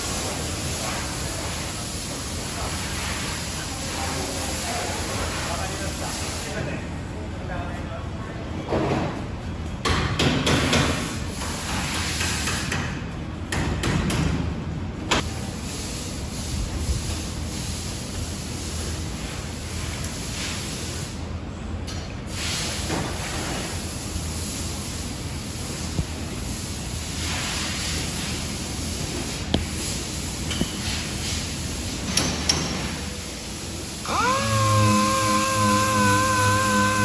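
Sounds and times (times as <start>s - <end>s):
hissing workshop noise: 0.0s - 37.0s.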